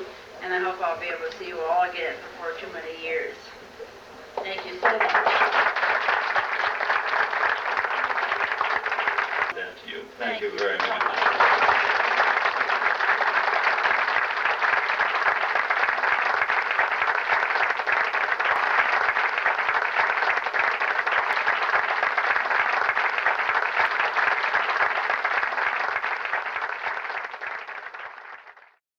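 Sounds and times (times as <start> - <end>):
audience applauding: 4.3 - 28.8.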